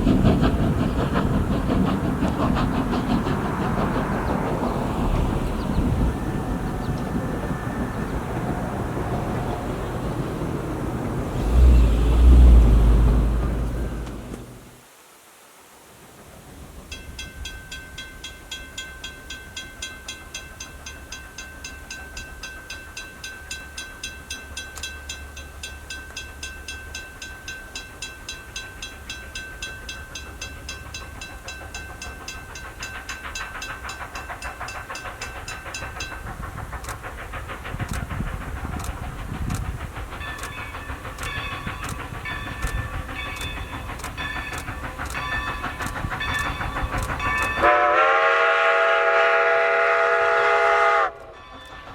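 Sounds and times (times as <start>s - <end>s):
steam train rumble and hiss: 0.0s - 51.9s.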